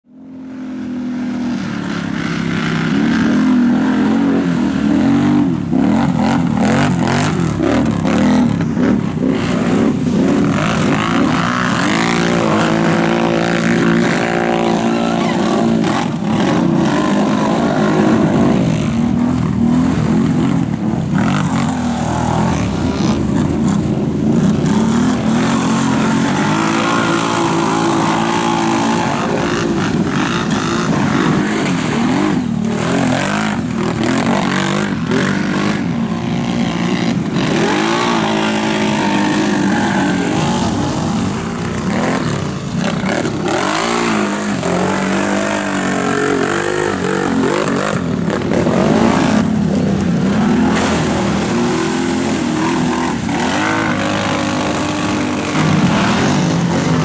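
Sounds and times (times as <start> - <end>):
quad bike engines revving: 0.0 - 57.0.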